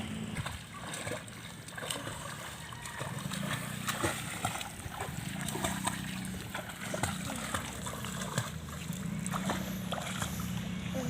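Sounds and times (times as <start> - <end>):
steady low hum: 0.0 - 11.0
water splashing in a pool: 0.0 - 11.0.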